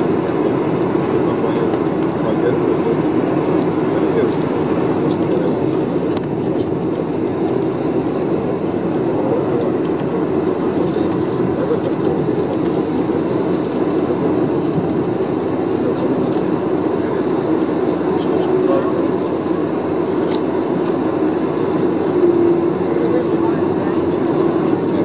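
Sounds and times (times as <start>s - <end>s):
jet engine rumble in aircraft cabin: 0.0s - 25.0s.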